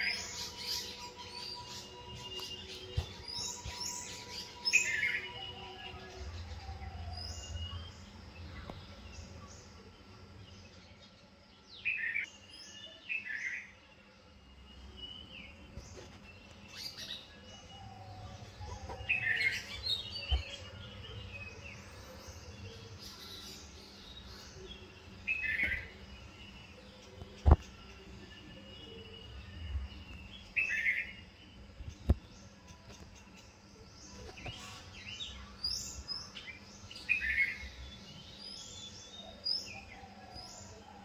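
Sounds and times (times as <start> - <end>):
wild birds chirping: 0.0 - 41.0.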